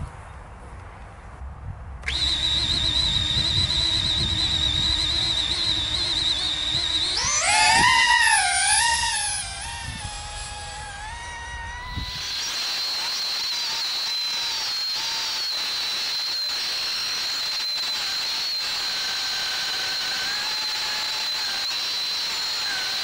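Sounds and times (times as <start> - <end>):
drone motors whining: 2.0 - 23.0.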